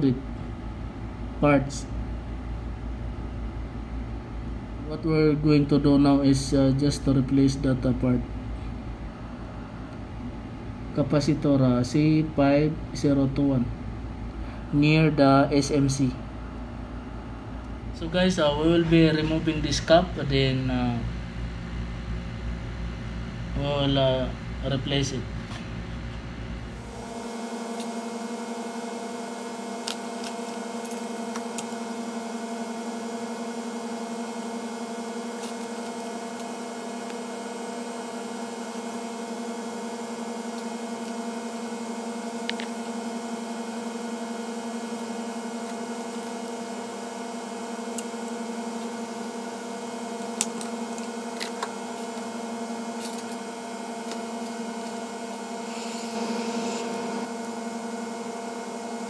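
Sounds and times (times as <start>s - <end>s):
hot air blower humming: 0.0s - 59.0s.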